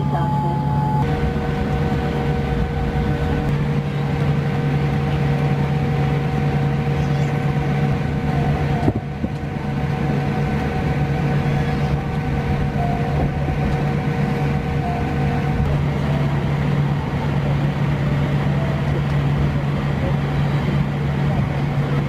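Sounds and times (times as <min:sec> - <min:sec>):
aircraft cabin rumble: 0:00.0 - 0:22.0
humming tones from aircraft systems: 0:00.0 - 0:22.0.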